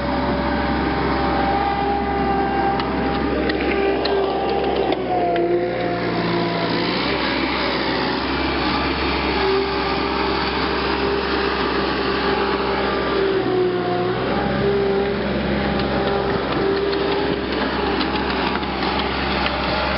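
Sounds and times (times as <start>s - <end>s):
power tool motor whine: 0.0s - 19.9s.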